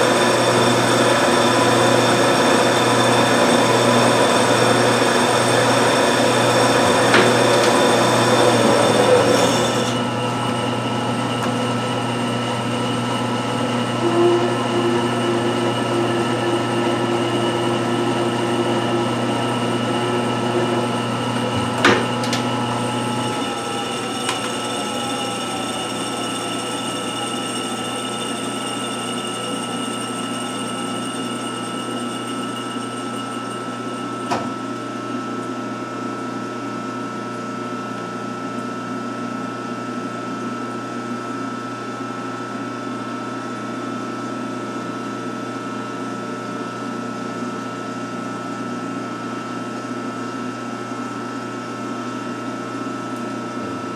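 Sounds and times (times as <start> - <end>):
lathe machining a part: 0.0 - 49.5.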